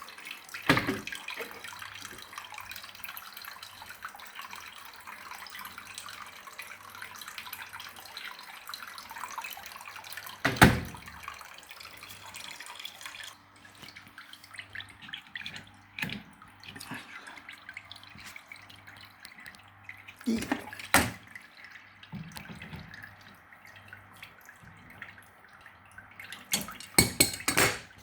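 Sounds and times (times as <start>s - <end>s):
water dripping: 0.0s - 28.0s
water running and splashing: 0.0s - 28.0s.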